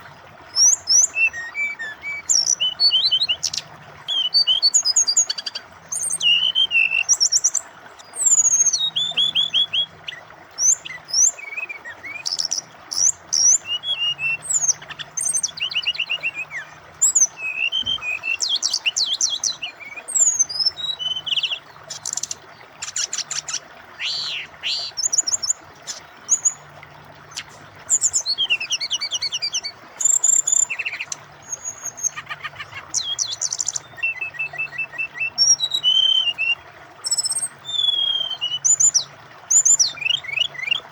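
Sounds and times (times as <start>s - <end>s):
bird singing chirps and trills: 0.0s - 40.9s
flowing water: 0.0s - 40.9s.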